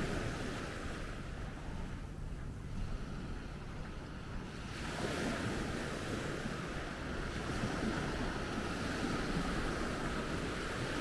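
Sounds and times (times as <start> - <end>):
sea waves breaking: 0.0 - 11.0
wind rumbling on microphone: 0.0 - 11.0.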